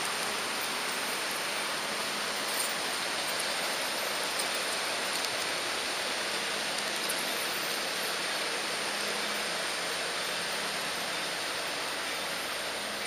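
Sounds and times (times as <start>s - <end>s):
model train rolling on track: 0.0s - 13.0s.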